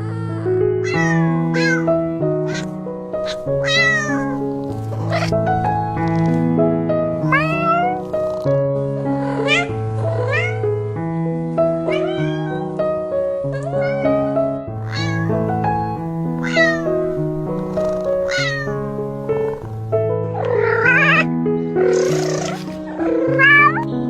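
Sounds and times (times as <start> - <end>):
cat meowing: 0.0 - 6.4, 7.2 - 8.5, 9.2 - 10.7, 11.8 - 12.9, 13.5 - 19.8, 20.4 - 23.9
background music of held notes: 0.0 - 24.0.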